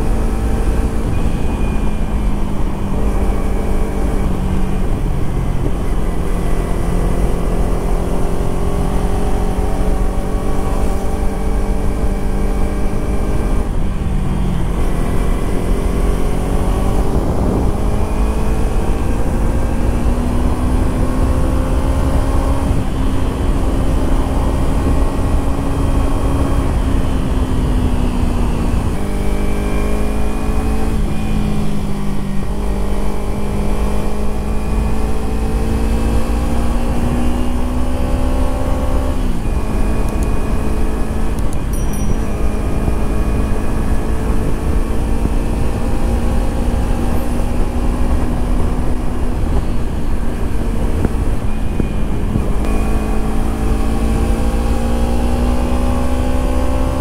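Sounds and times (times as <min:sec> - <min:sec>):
motorcycle engine running: 0:00.0 - 0:57.0
wind on microphone: 0:00.0 - 0:57.0.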